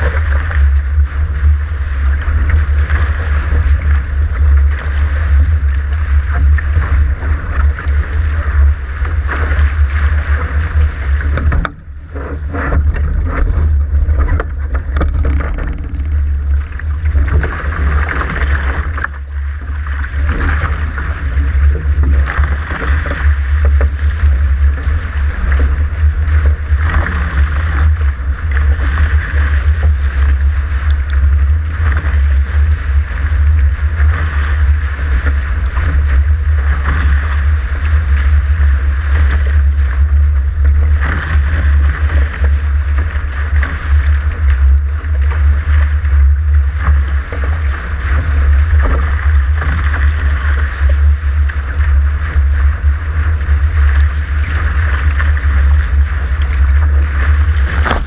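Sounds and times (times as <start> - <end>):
wind buffeting microphone: 0.0 - 44.9, 45.6 - 58.0
water rushing past hull: 0.0 - 58.0.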